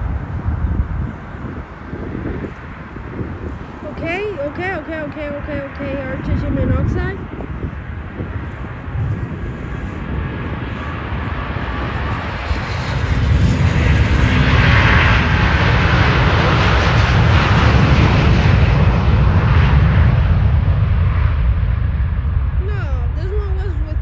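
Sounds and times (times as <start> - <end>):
jet engines roaring: 0.0 - 24.0
low rumble: 0.0 - 24.0.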